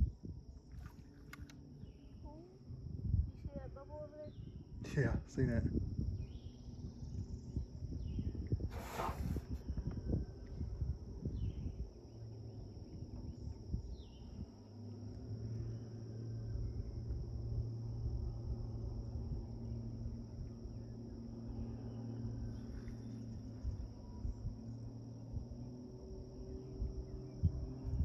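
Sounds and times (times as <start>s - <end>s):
low steady hum: 0.0s - 28.0s
high-pitched insect trill: 1.6s - 28.0s
low rumbling: 5.4s - 28.0s.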